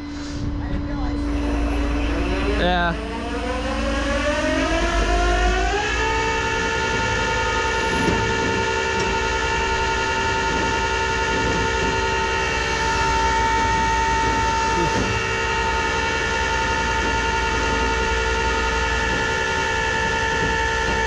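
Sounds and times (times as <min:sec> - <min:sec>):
hydraulic pump whine: 0:00.0 - 0:21.0
tow truck engine revving: 0:01.2 - 0:21.0.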